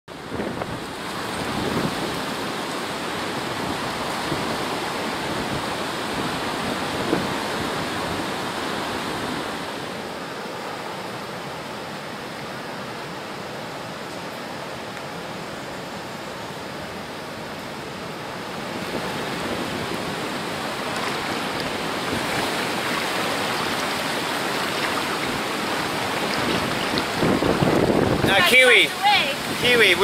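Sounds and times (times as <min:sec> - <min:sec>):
ocean surf rushing: 0:00.1 - 0:30.0.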